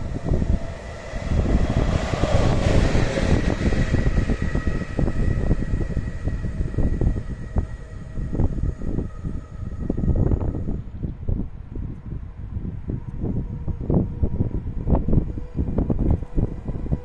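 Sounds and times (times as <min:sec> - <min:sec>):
electric locomotive passing: 0:00.0 - 0:17.0.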